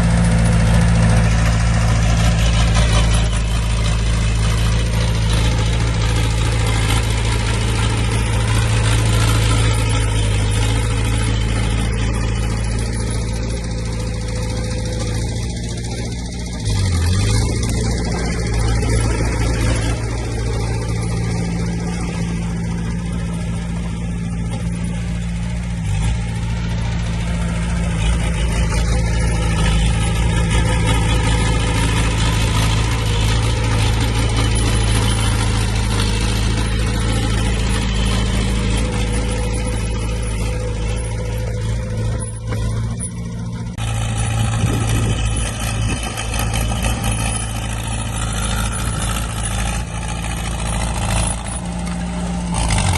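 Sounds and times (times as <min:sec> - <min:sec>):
heavy diesel machines running: 0:00.0 - 0:52.9.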